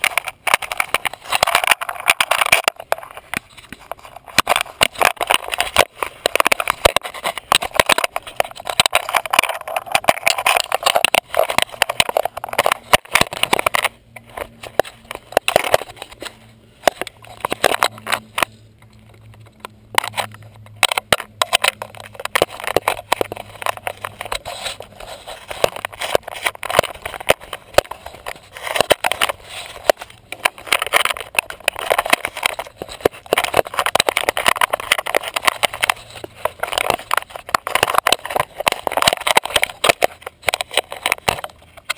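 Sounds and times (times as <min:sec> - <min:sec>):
mountain bike rattling: 0:00.0 - 0:41.9
tyres crackling over dirt: 0:00.0 - 0:41.9.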